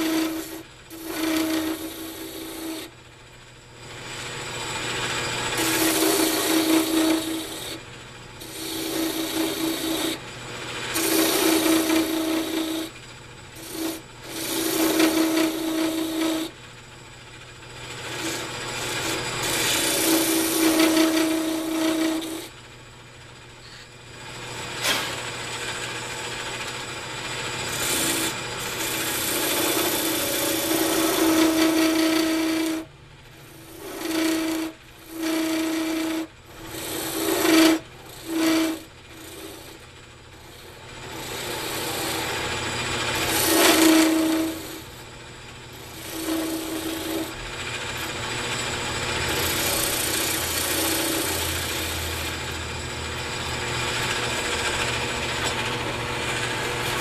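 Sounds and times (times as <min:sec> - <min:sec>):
turning tool rasping on wood: 0:00.0 - 0:03.0, 0:04.0 - 0:16.6, 0:17.8 - 0:22.6, 0:25.7 - 0:57.0
wood lathe running: 0:00.0 - 0:57.0.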